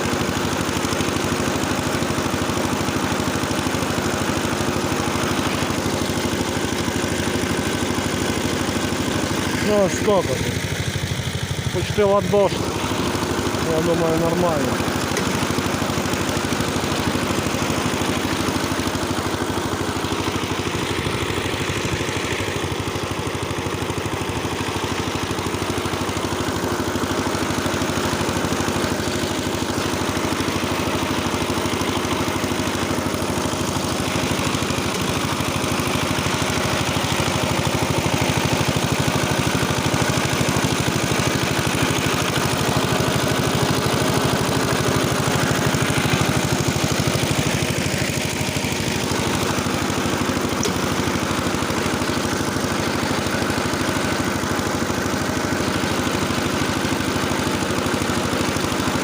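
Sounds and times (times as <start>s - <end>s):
rotary tiller engine running: 0.0s - 59.0s
tiller blades churning soil: 0.0s - 59.0s.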